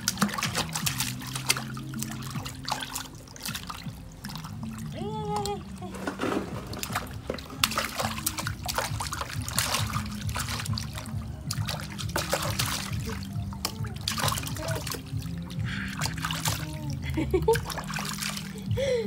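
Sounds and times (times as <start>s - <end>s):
background music: 0.0s - 19.0s
water splashing in a plastic basin: 0.0s - 19.0s.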